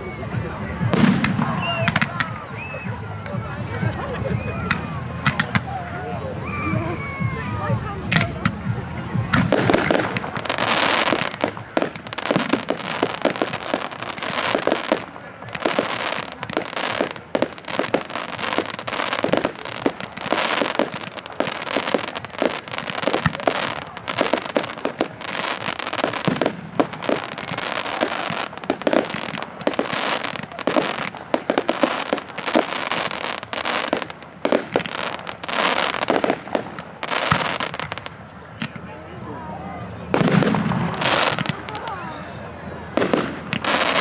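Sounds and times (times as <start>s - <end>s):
firework crackling: 0.0s - 39.2s, 39.9s - 44.0s
firework bangs: 0.2s - 3.7s, 4.3s - 5.8s, 6.8s - 38.9s, 40.0s - 42.0s, 42.8s - 44.0s.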